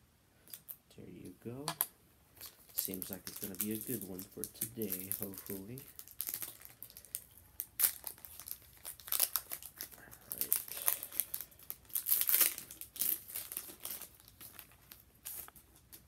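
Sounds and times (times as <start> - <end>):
plastic wrapper tearing and crinkling: 2.4 - 16.0.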